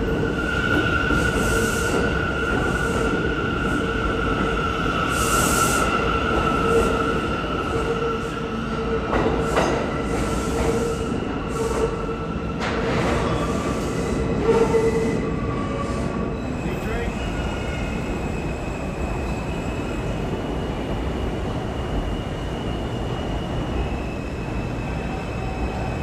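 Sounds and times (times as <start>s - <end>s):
subway cars rumbling: 0.0s - 26.0s.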